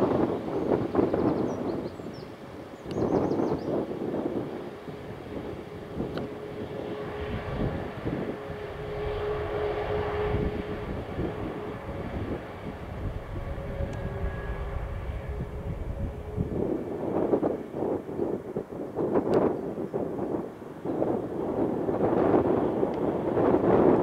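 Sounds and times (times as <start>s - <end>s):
jet engines droning: 0.0s - 24.0s.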